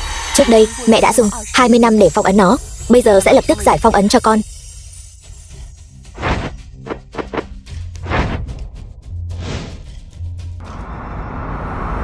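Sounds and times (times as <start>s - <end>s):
dramatic film score: 0.0s - 12.0s.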